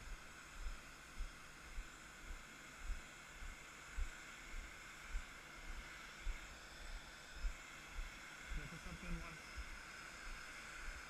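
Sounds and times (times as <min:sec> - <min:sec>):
jet engine whine and hiss: 0:00.0 - 0:11.0.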